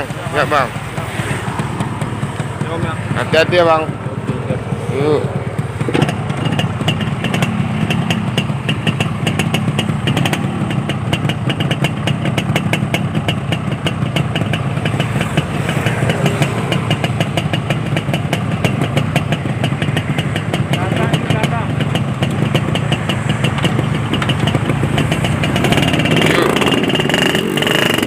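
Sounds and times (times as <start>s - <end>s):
two-stroke motorcycle engines: 0.0s - 28.0s.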